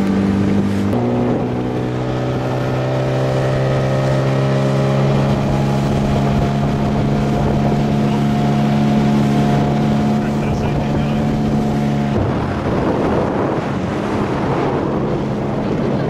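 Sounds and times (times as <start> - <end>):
outboard motor drone: 0.0 - 16.0.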